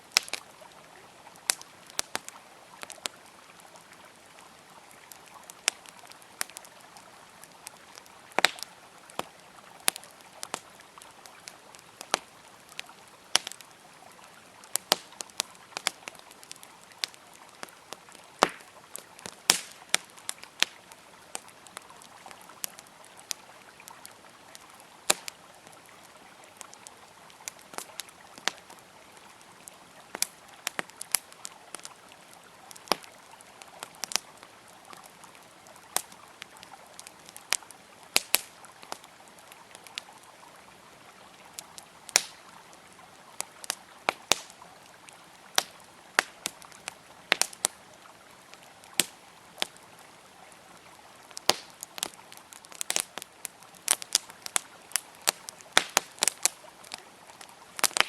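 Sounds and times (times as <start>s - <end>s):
campfire crackling and popping: 0.0s - 58.0s
flowing river water: 0.0s - 58.0s.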